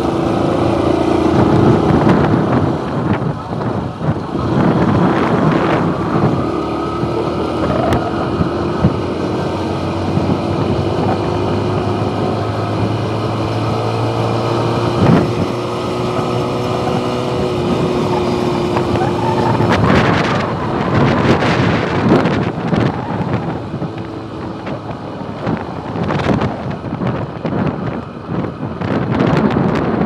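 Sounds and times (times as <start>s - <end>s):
motorcycle engine cruising: 0.0s - 30.0s
wind on microphone: 0.0s - 30.0s.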